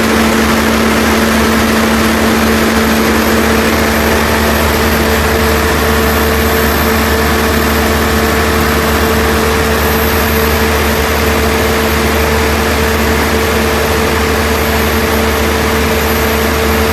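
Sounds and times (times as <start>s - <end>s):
diesel generator engine droning: 0.0s - 16.9s.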